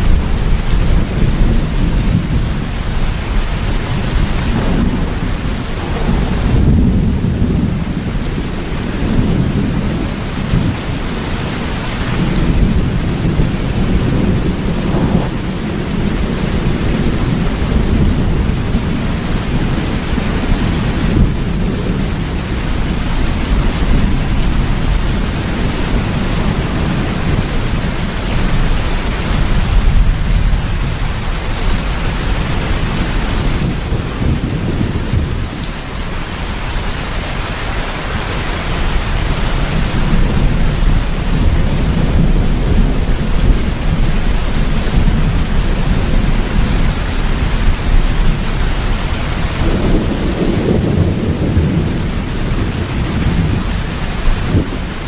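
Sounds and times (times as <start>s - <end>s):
low thunder rumbling: 0.0s - 55.0s
steady rain: 0.0s - 55.0s.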